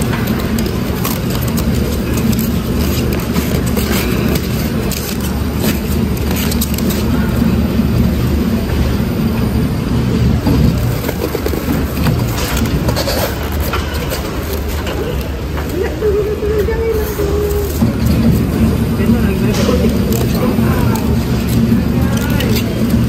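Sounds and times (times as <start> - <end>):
plastic film crackling: 0.0 - 8.0, 10.6 - 23.0
low motor hum: 0.0 - 23.0.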